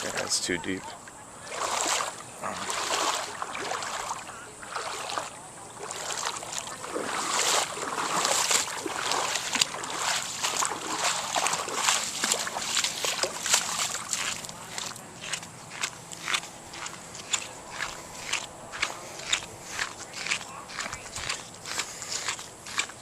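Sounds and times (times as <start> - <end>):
floodwater sloshing and splashing: 0.0 - 23.0.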